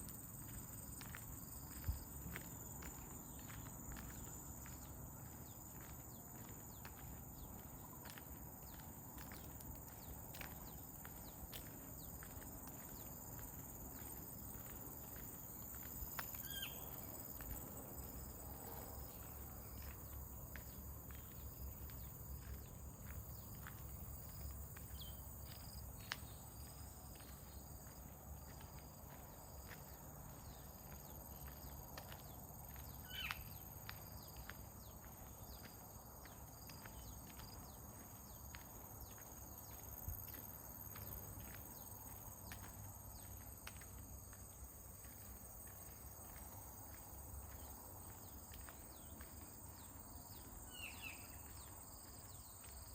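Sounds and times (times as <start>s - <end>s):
footsteps on a path: 0.0s - 52.9s
high insect chorus: 0.0s - 52.9s.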